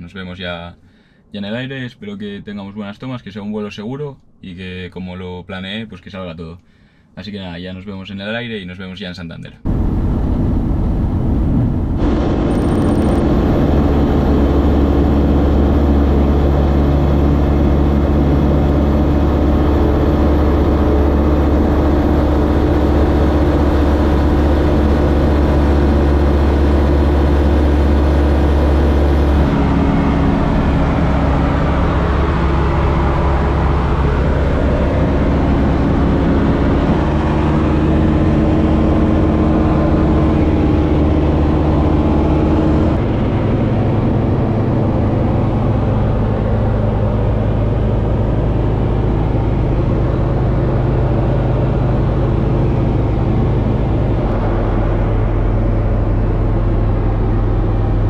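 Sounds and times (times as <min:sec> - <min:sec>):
propeller aircraft engine drone: 0:09.7 - 0:58.0
rushing air noise: 0:09.7 - 0:58.0.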